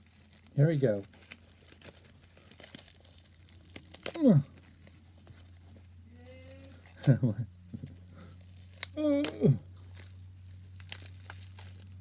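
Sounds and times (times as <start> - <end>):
packaging crinkling: 0.0 - 12.0
small clicks and crackles: 0.0 - 12.0.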